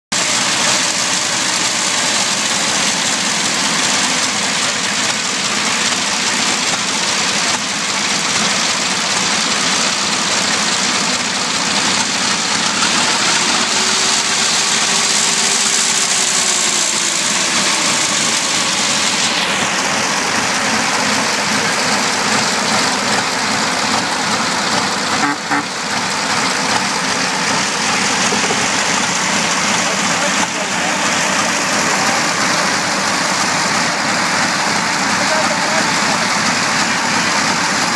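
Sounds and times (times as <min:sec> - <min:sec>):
car engine running: 0:00.1 - 0:37.9.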